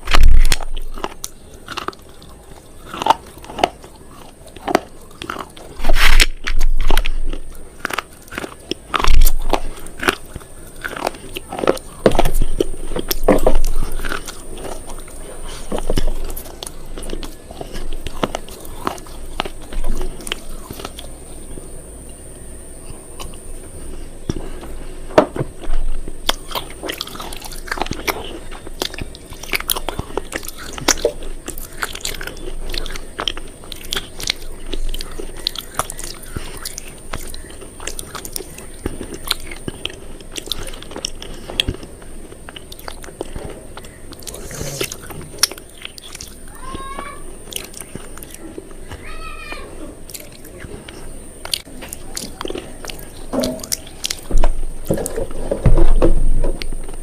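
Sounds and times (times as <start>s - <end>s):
crisp crunching: 0.0s - 22.2s, 22.8s - 57.0s.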